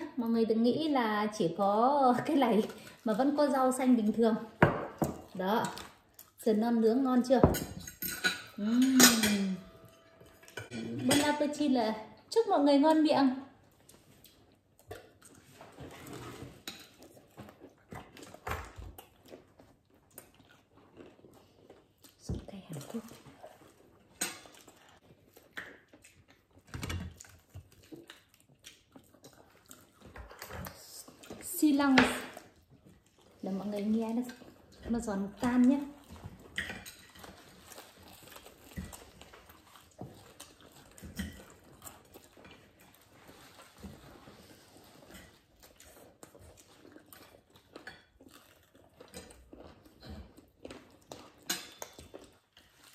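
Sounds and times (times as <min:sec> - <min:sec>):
people chewing: 0:02.1 - 0:06.6, 0:13.6 - 0:52.9.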